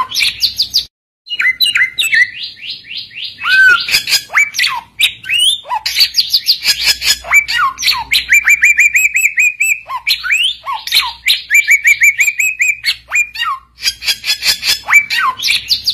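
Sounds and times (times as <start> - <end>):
songbird singing whistled song: 0.0 - 15.9.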